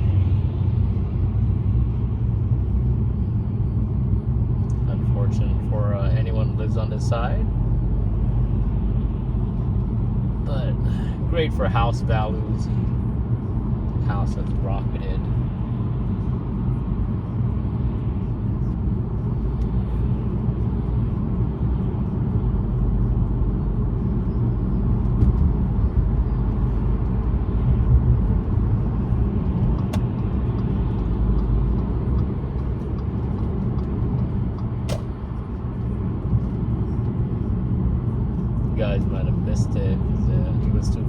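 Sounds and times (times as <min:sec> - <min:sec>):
car engine rumble: 0:00.0 - 0:41.0.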